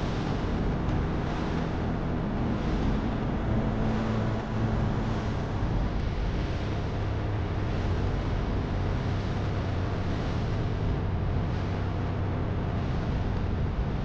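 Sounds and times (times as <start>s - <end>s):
atv engine running: 0.0s - 14.0s
wind noise on microphone: 0.0s - 14.0s.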